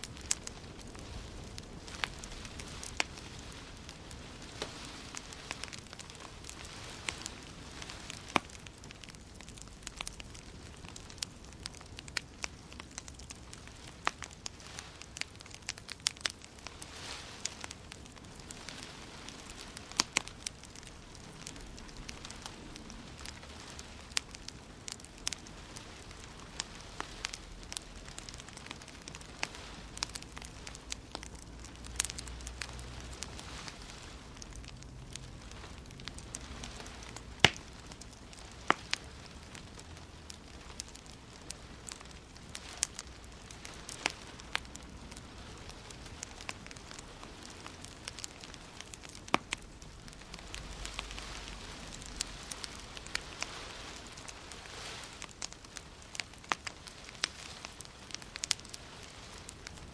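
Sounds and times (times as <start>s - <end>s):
steady hiss: 0.0s - 59.9s
wood fire crackling: 0.0s - 59.9s.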